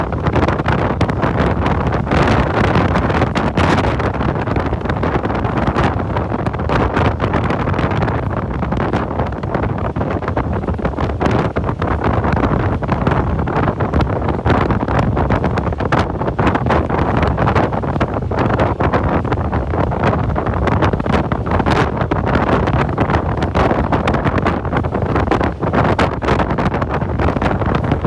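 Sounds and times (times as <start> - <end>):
steady loud rushing noise: 0.0 - 28.0
wind buffeting microphone: 0.0 - 28.0.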